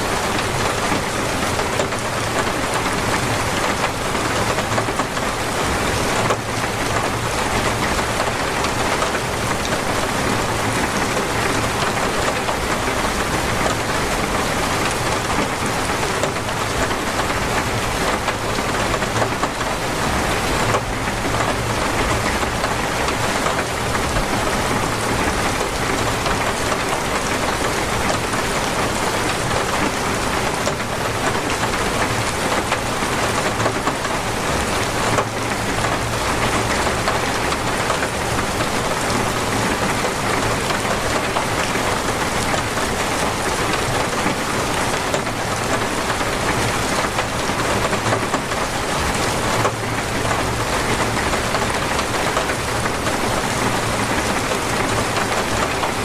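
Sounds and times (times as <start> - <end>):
torrential rain pouring: 0.0 - 56.0.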